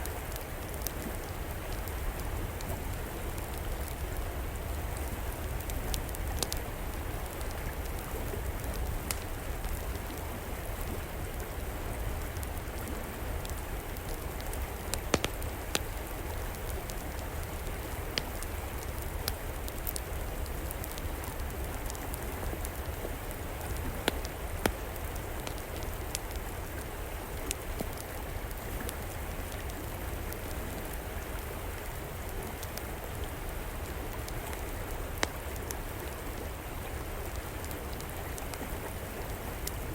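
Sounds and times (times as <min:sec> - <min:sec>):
wood fire popping and crackling: 0:00.0 - 0:36.6
river flowing: 0:00.0 - 0:39.9.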